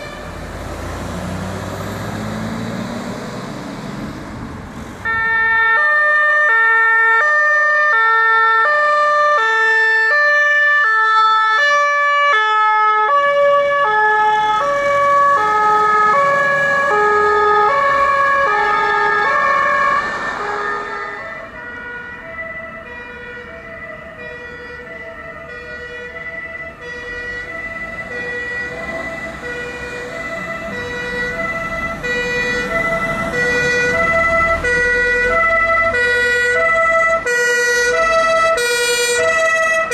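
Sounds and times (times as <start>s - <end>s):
two-tone emergency sirens: 0.0s - 39.9s.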